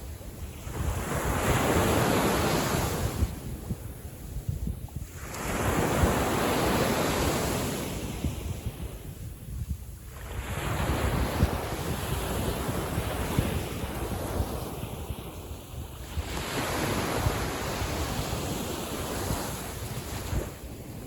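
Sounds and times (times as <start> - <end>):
sea waves washing in: 0.0 - 21.0
wind rumbling on microphone: 0.0 - 21.0.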